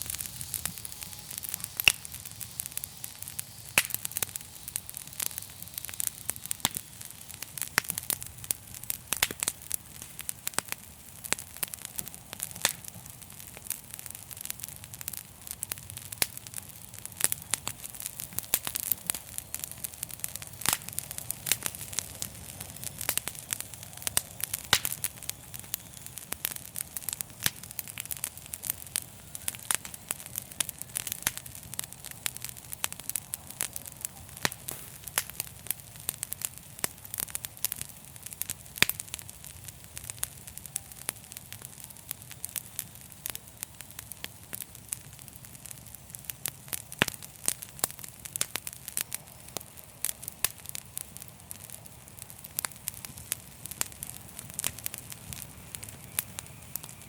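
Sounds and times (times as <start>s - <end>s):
fire crackling: 0.0s - 57.0s
steady hiss: 0.0s - 57.0s.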